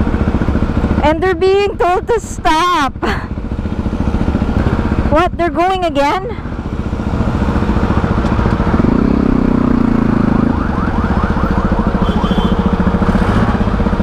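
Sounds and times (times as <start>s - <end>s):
motorcycle engine idling: 0.0s - 14.0s
street traffic: 0.0s - 14.0s.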